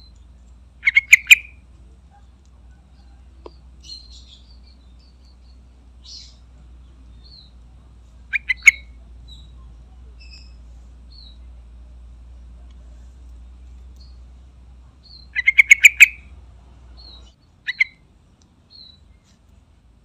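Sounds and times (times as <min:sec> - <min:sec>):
bird chirping: 0:00.0 - 0:19.4.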